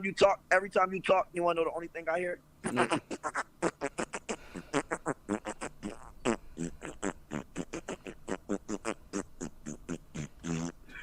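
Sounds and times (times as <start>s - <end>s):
man making nonsense syllables: 0.0s - 11.0s.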